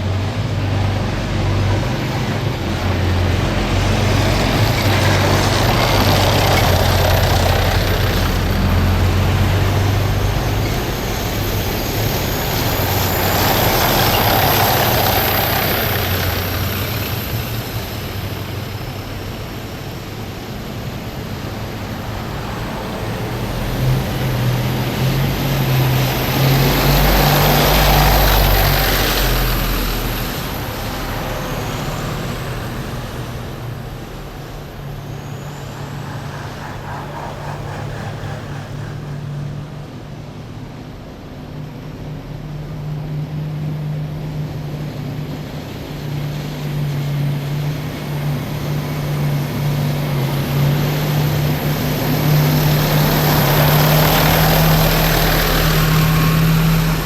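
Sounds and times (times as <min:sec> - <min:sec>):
heavy military vehicles passing: 0:00.0 - 0:42.5, 0:43.1 - 0:57.0.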